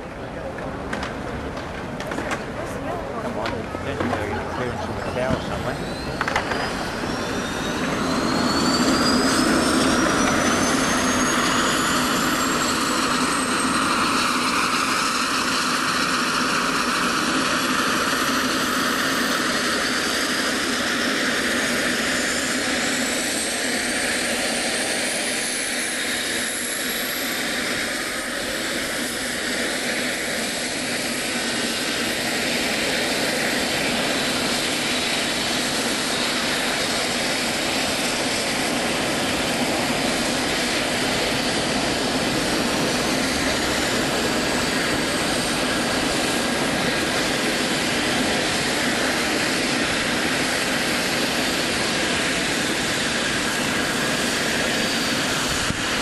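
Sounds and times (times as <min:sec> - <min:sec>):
helicopter engine and rotor noise: 0:00.0 - 0:56.0
high turbine whine: 0:00.0 - 0:56.0.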